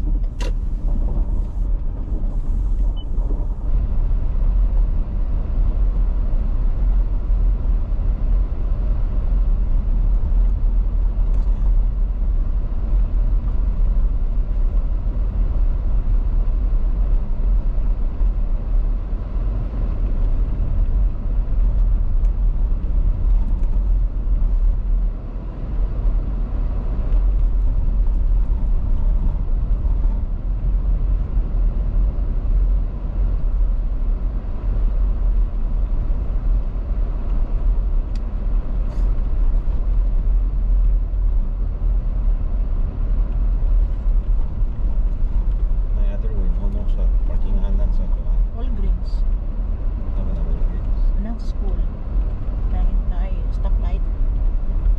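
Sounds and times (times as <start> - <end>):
car tyres and engine rumbling: 0.0 - 54.9.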